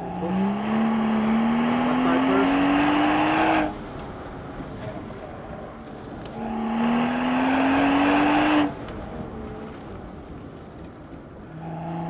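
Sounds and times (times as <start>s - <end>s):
car engine accelerating: 0.0s - 10.8s, 11.4s - 12.0s.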